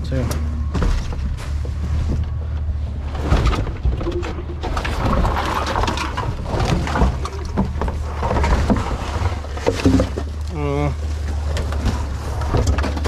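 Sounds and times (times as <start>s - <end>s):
junk clattering in a dumpster: 0.1s - 13.0s.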